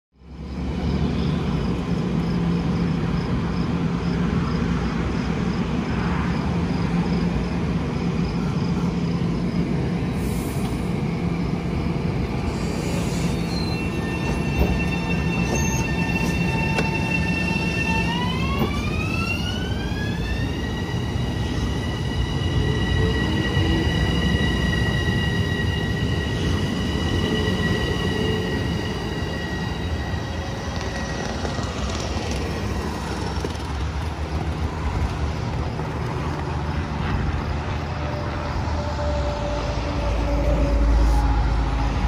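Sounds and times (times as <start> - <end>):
high-pitched train whine: 0.2 - 42.0
train rumbling: 0.2 - 42.0.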